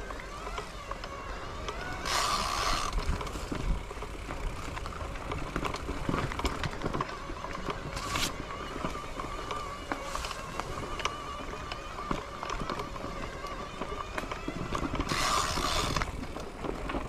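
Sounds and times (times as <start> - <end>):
bicycle road noise: 0.0 - 17.0.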